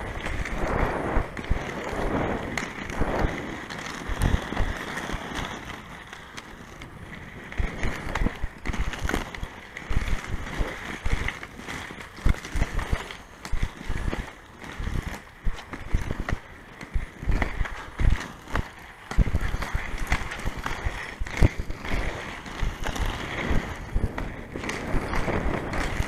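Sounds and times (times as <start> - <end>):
inline skate wheels on asphalt: 0.0 - 26.0.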